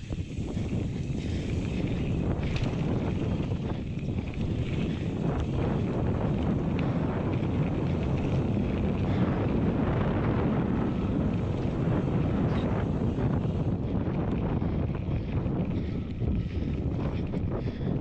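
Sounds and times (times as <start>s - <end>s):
bike rolling rumble: 0.0s - 18.0s
wind buffeting microphone: 0.0s - 18.0s.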